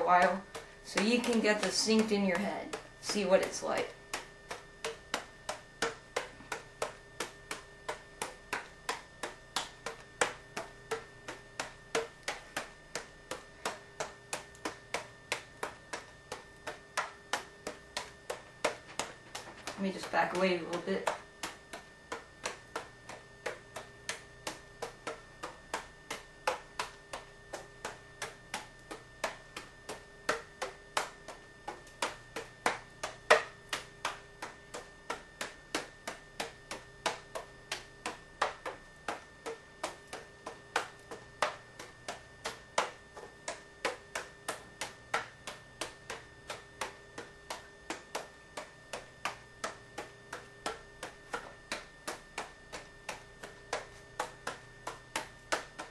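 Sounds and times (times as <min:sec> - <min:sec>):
juggling clubs caught in hand: 0:00.0 - 0:55.9.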